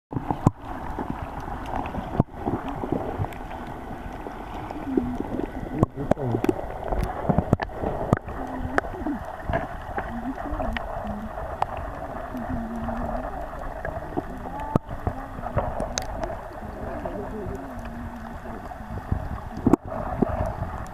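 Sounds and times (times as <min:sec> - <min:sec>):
muffled underwater water noise: 0:00.1 - 0:20.9
sharp underwater clicks: 0:00.1 - 0:20.9.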